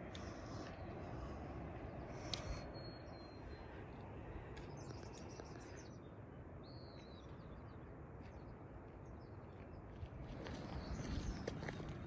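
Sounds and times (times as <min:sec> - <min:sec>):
low outdoor rush: 0:00.0 - 0:12.0
small birds chirping: 0:00.0 - 0:12.0.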